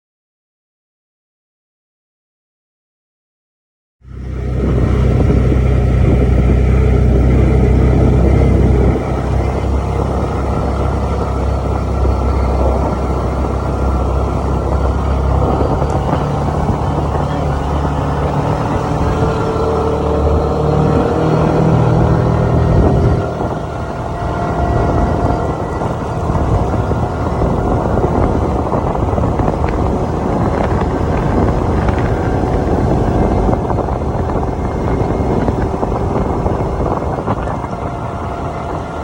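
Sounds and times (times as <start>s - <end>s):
car engine rumbling: 4.0s - 39.0s.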